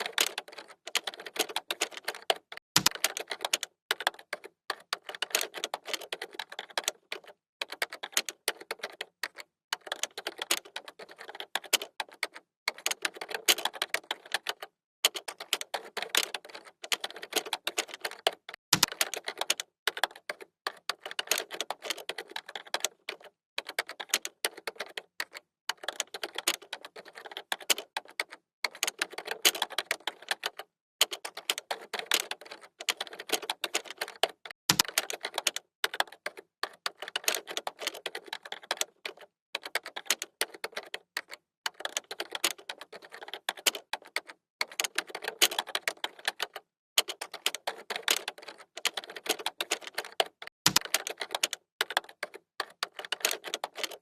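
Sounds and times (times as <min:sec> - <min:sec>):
fast typing on computer keyboard: 0:00.0 - 0:54.0.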